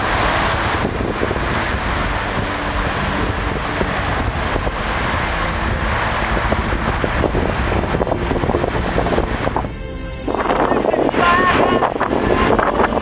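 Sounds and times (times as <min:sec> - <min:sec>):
sea surf breaking on rocks: 0:00.0 - 0:13.0
wind buffeting microphone: 0:00.0 - 0:13.0.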